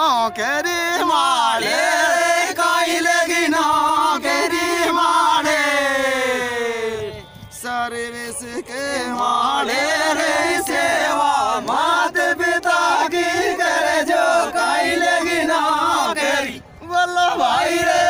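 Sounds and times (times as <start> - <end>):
men singing folk song together: 0.0 - 18.0.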